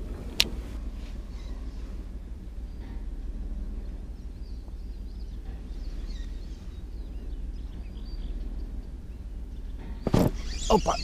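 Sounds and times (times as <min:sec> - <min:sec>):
low outdoor rumble: 0:00.0 - 0:11.0
small birds chirping: 0:00.8 - 0:11.0.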